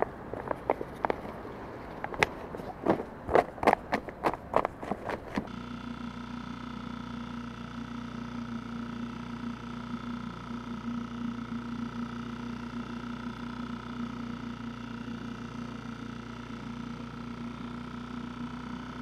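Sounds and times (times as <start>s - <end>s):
steady motor drone: 0.0s - 19.0s.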